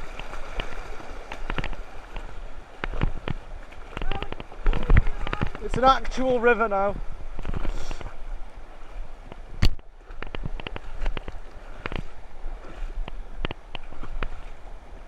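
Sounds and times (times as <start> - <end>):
sharp knocks and splashes: 0.0 - 6.6, 7.2 - 15.0
rushing river water: 0.0 - 15.0
wind rumbling on microphone: 0.0 - 15.0.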